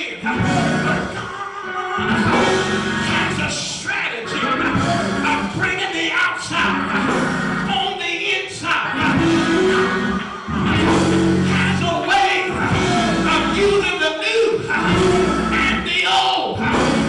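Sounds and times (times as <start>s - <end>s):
church backing music: 0.0s - 17.0s
man singing through microphone: 0.0s - 17.0s.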